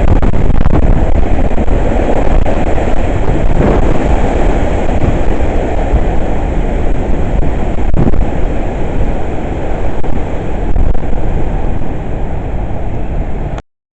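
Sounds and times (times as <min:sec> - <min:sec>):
strong gusting wind: 0:00.0 - 0:13.6
wind buffeting microphone: 0:00.0 - 0:13.6.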